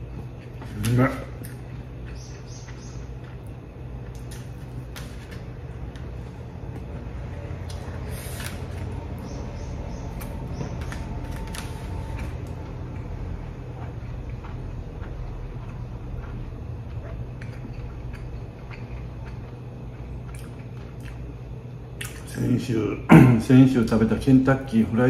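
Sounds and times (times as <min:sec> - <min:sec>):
person chewing: 0:00.0 - 0:09.3, 0:10.1 - 0:22.4
low steady hum: 0:00.0 - 0:25.0.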